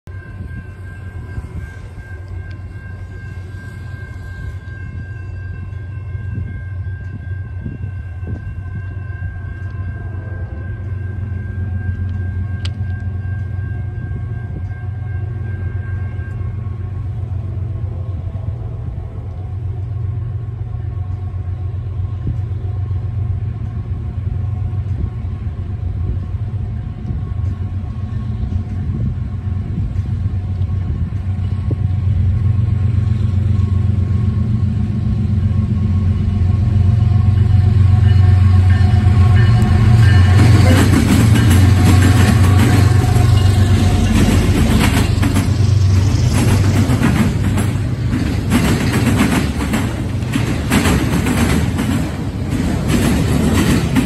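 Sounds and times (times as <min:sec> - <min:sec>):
distant locomotives rumbling: 0:00.0 - 0:54.0.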